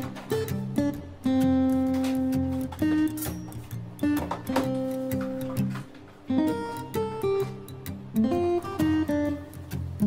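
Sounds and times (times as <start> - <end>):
guitar-led music with bass: 0.0 - 10.0.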